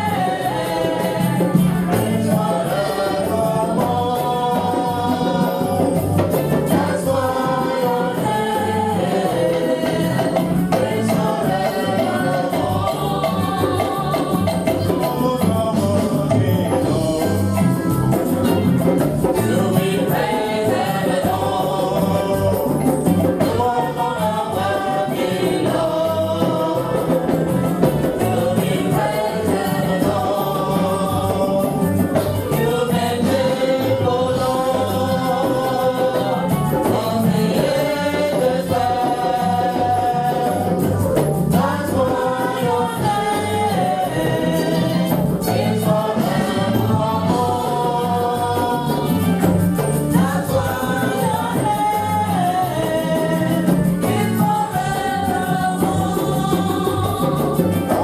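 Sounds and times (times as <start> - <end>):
choir singing gospel: 0.0 - 58.0
steady drum beat: 0.0 - 58.0.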